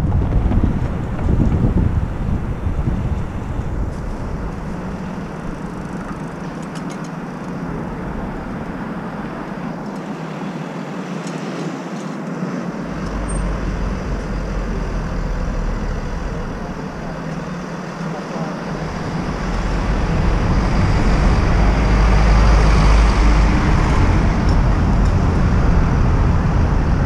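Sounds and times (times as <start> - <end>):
city traffic noise: 0.0 - 27.0
wind rumbling on microphone: 0.0 - 27.0.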